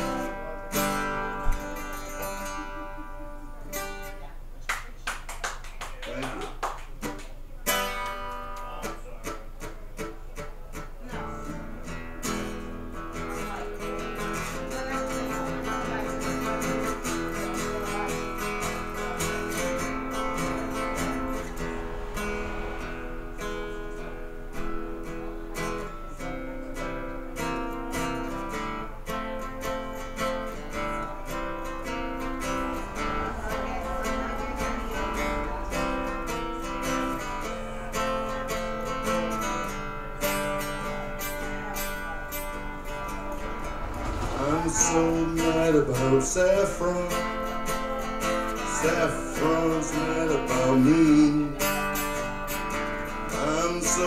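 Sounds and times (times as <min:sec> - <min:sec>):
acoustic guitar strumming: 0:00.0 - 0:04.5, 0:06.3 - 0:54.0.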